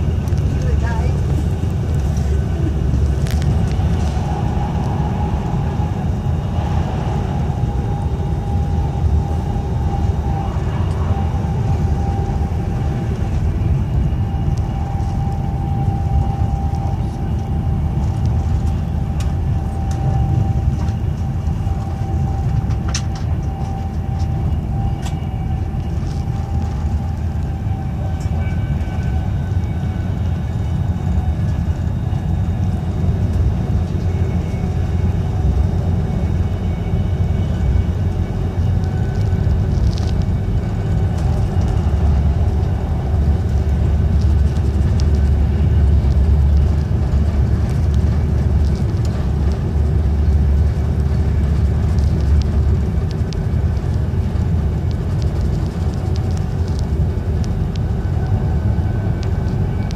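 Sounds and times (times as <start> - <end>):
thin steady whine: 0.0 - 59.9
train wheels rumbling on track: 0.0 - 59.9.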